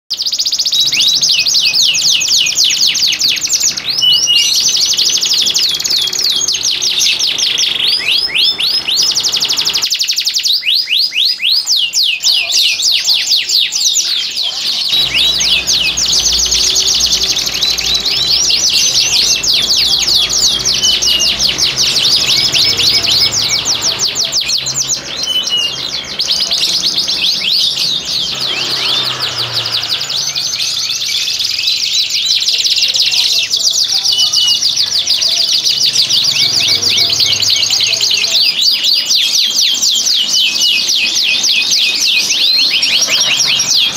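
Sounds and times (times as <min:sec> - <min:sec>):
canaries singing trills: 0:00.1 - 0:43.9
canary chirps: 0:00.1 - 0:43.9.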